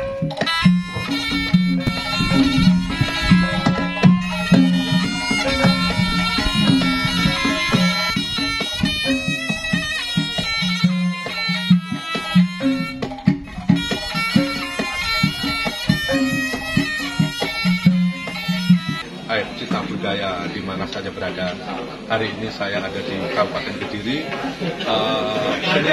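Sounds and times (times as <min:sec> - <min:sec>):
shrill reed pipe melody: 0:00.0 - 0:21.8
low held notes: 0:00.0 - 0:23.6
drums: 0:00.0 - 0:25.9.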